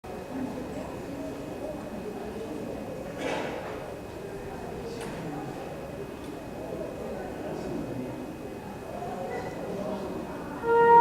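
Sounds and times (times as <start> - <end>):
murmur of voices in a hall: 0.0 - 11.0.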